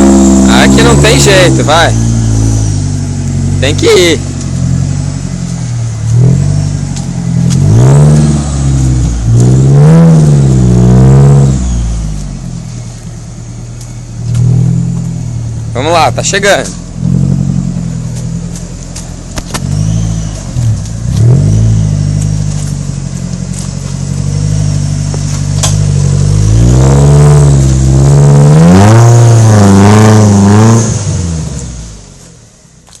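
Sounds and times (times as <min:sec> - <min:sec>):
car engine revving: 0:00.0 - 0:32.6
supercharger whine: 0:00.0 - 0:33.0.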